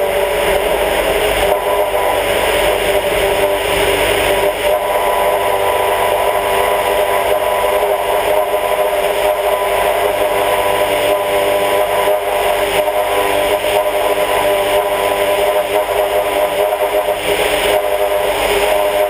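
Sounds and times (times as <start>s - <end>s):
light aircraft engine running: 0.0s - 19.0s.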